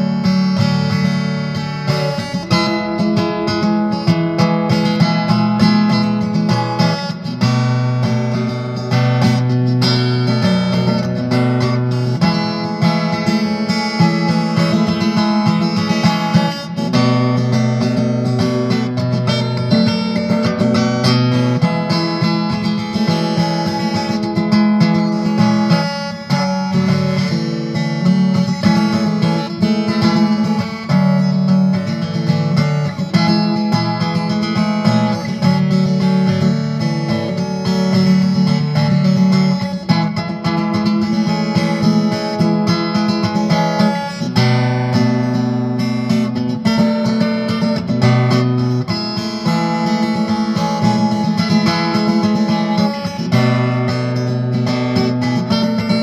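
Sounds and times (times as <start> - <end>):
acoustic guitar chords: 0.0 - 56.0.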